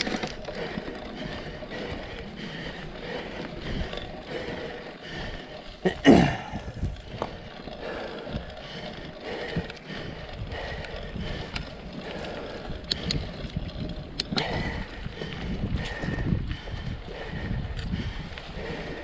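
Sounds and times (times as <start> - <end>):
bike clicking and rattling: 0.0 - 19.0
bike tyres over dry leaves: 0.0 - 19.0.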